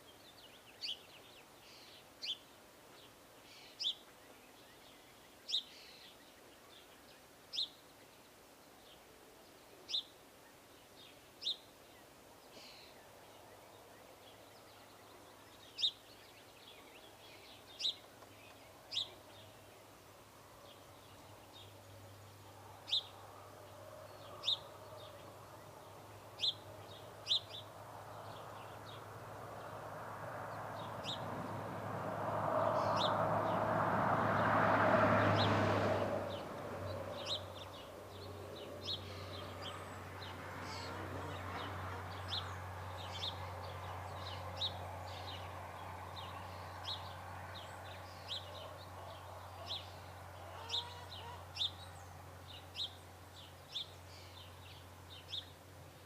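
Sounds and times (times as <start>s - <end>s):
small birds chirping: 0.0s - 29.8s, 30.5s - 31.6s, 36.2s - 56.0s.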